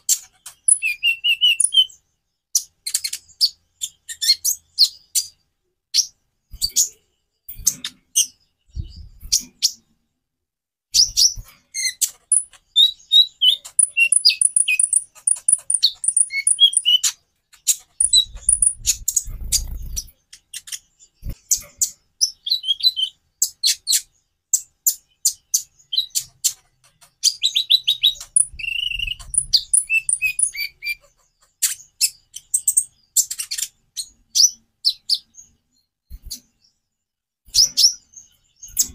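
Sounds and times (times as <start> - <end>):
sunbird chirping and trilling: 0.0 - 10.0, 10.9 - 38.9.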